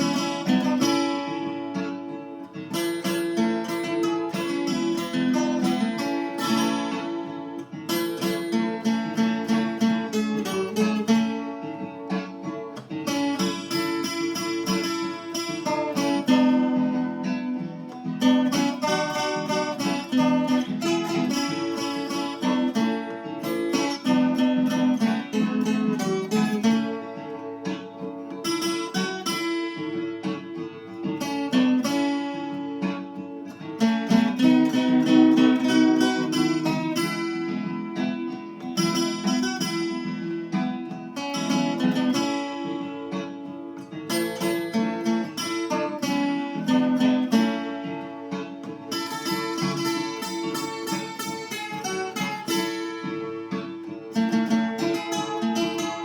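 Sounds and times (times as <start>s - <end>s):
steel-string guitar hymn melody: 0.0s - 56.0s.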